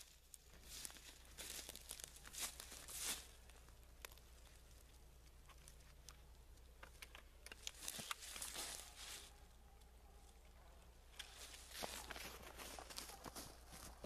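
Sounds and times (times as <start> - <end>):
footsteps in frosty grass: 0.0 - 6.0, 7.6 - 14.0.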